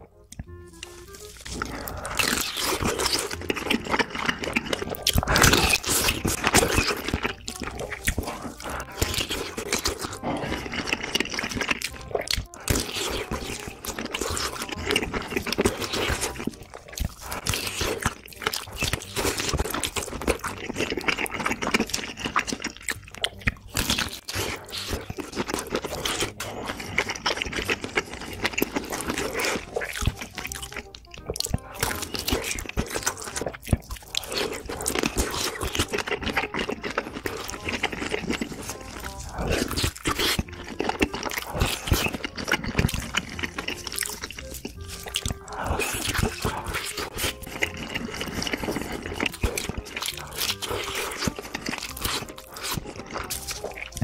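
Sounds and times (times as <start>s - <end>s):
chewing sausages: 0.0s - 54.0s
wet mouth clicks and smacks: 0.3s - 54.0s.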